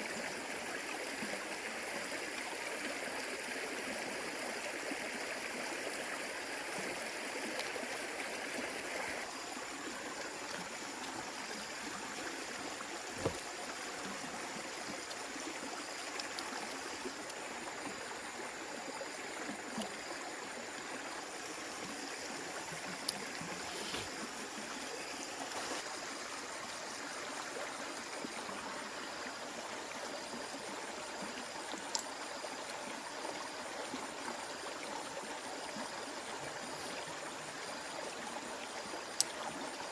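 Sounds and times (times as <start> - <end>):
stream water over rocks: 0.0 - 39.9.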